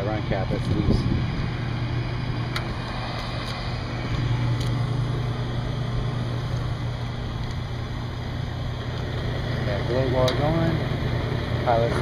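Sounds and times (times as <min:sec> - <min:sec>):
heating unit humming: 0:00.0 - 0:12.0.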